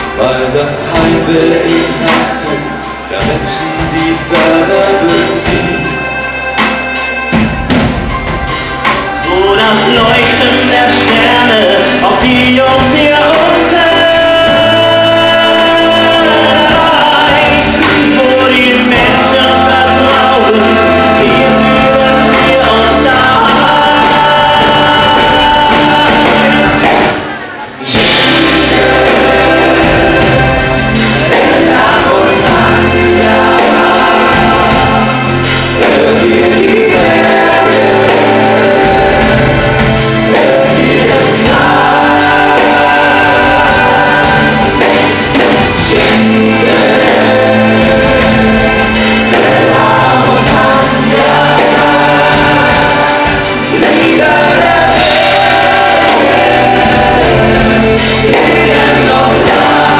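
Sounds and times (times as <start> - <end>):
men singing in harmony: 0.0 - 6.7, 9.2 - 59.9
drums: 0.0 - 59.9
electric bass: 0.0 - 59.9.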